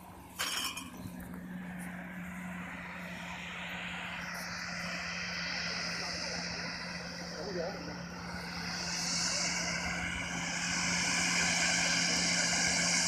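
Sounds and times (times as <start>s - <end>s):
turboprop engine hiss and whine: 0.0s - 13.0s.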